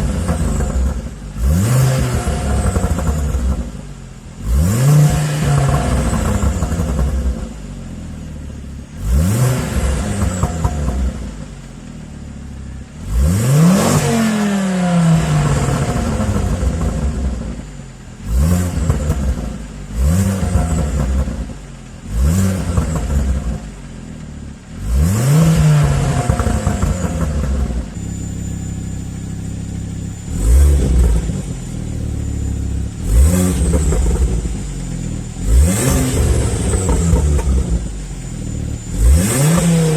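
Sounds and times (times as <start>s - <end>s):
car engine revving: 0.0s - 11.8s, 12.9s - 39.9s.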